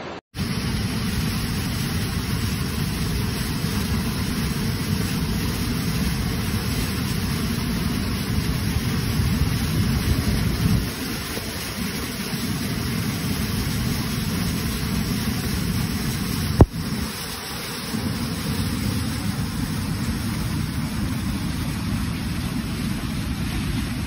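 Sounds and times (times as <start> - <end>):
floodwater rushing over rocks: 0.4 - 24.0.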